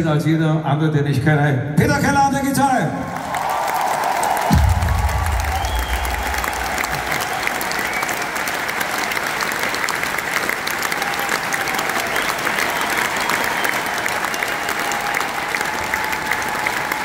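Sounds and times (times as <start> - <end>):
crowd applauding: 3.0 - 17.0.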